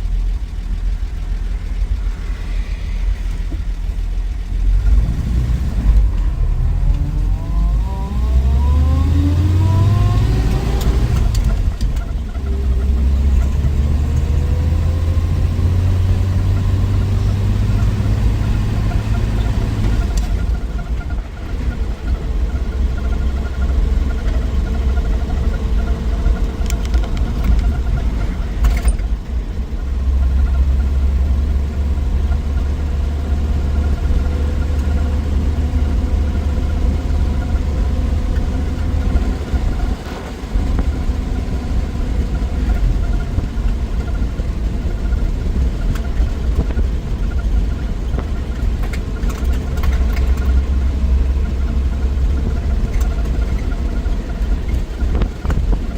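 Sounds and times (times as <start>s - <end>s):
car engine running on road: 0.0s - 55.9s.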